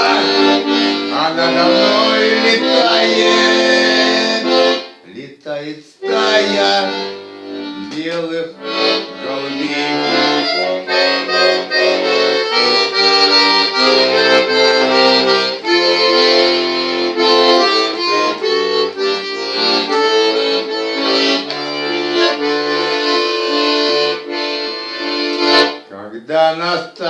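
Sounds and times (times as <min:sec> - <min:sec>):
accordion playing: 0:00.0 - 0:05.0, 0:06.0 - 0:25.9
person singing: 0:00.0 - 0:25.2.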